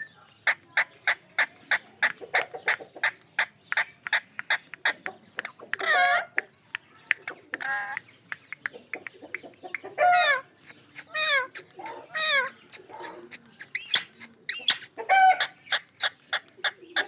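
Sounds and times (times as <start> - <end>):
parakeet clicks and chirps: 0.0 - 17.0.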